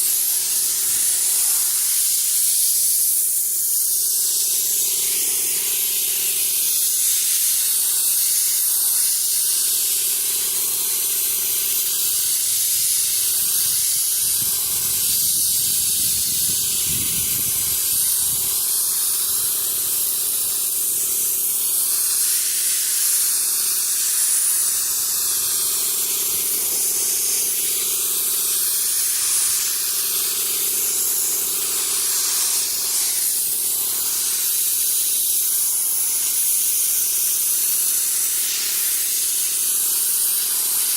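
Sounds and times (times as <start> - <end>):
paint spray gun hissing: 0.0 - 40.9.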